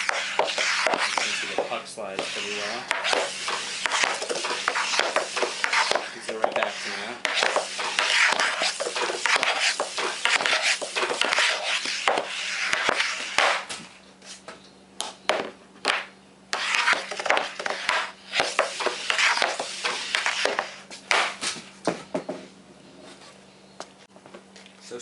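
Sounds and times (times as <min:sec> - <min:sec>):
pucks clacking: 0:00.0 - 0:13.9, 0:15.0 - 0:21.6
hockey stick scraping board: 0:00.0 - 0:14.5, 0:15.3 - 0:22.4.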